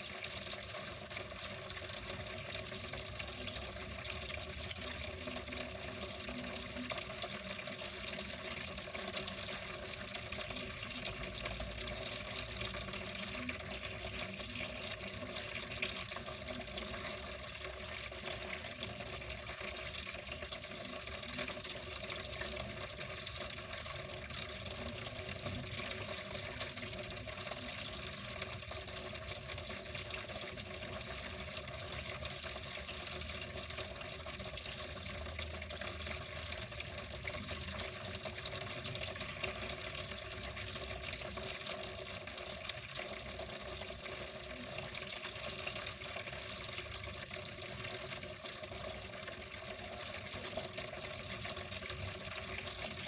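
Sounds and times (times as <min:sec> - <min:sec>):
water flowing steadily: 0:00.0 - 0:53.0.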